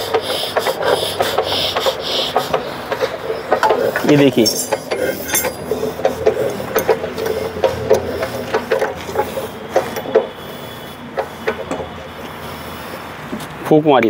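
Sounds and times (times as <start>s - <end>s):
diesel engine turned by hand clanking: 0.0s - 14.0s.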